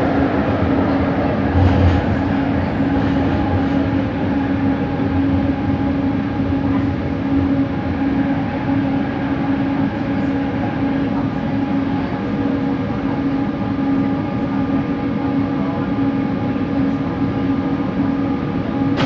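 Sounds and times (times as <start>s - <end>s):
motor steady hum: 0.0s - 19.0s
train car running noise: 0.0s - 19.0s.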